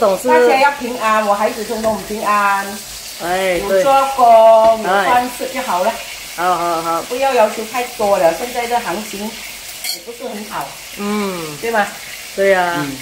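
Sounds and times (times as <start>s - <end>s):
woman talking: 0.0s - 9.4s, 10.1s - 13.0s
fish sizzling in hot oil: 0.0s - 13.0s.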